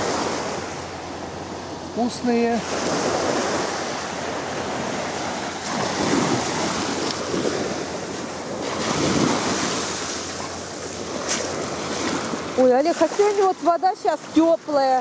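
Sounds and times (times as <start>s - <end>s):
waves washing over pebbles: 2.0s - 15.0s.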